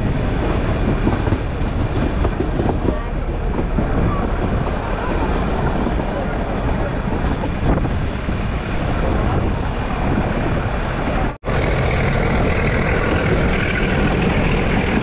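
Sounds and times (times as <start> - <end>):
train running rumble: 0.0 - 15.0
wind buffeting microphone: 0.0 - 15.0.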